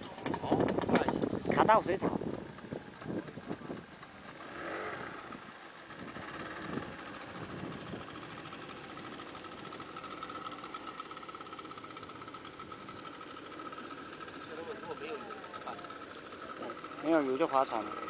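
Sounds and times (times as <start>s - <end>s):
outboard motor whine: 0.0s - 18.0s.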